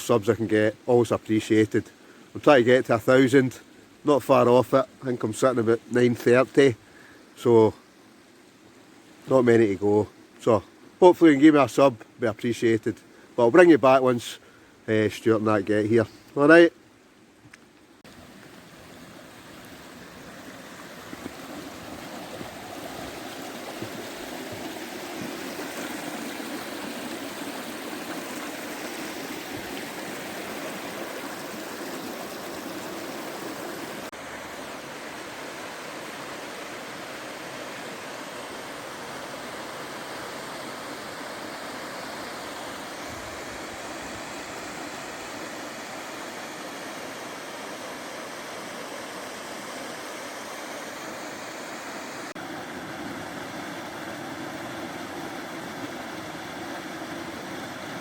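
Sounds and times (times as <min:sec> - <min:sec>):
stream of running water: 0:00.0 - 0:58.0.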